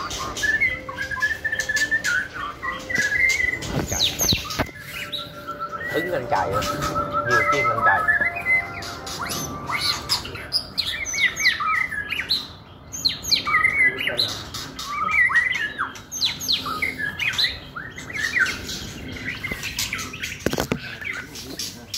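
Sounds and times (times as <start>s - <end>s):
bird singing whistled notes: 0.0s - 21.4s.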